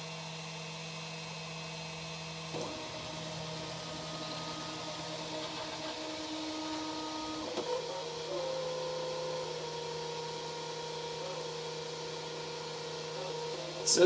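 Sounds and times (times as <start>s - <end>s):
fan hum: 1.5s - 14.0s
stepper motors whining: 2.5s - 14.0s.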